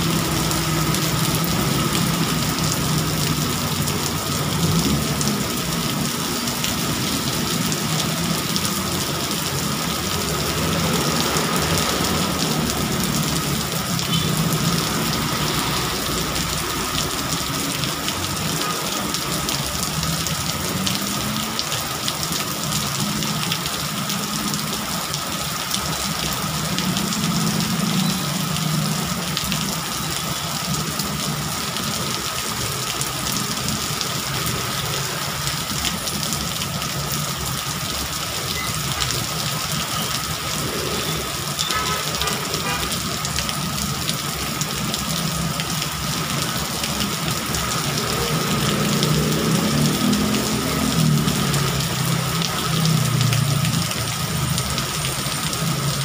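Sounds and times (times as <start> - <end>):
heavy rain on wet road: 0.0 - 56.0
traffic passing: 0.0 - 56.0.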